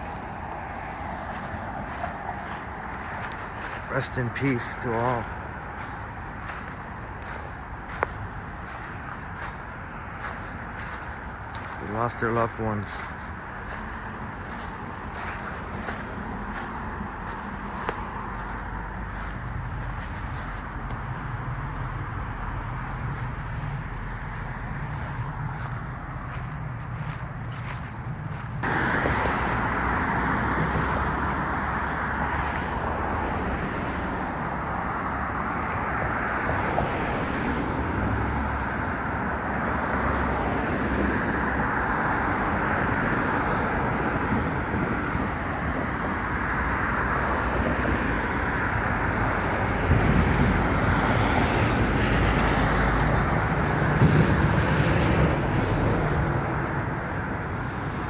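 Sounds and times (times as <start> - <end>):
heavy vehicle passing: 0.0 - 58.0
road traffic hiss: 0.0 - 58.0.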